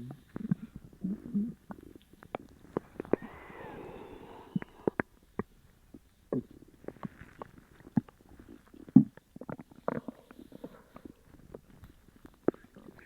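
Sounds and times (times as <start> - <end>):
stomach gurgling: 0.0 - 13.0.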